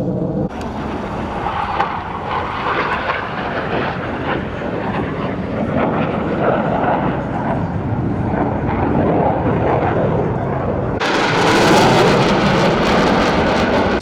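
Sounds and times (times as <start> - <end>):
jets flying past: 0.4 - 14.0.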